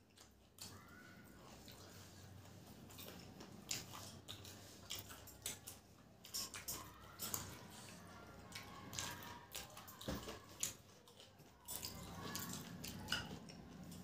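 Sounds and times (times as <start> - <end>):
chewing crisp food crunches: 0.0 - 14.0.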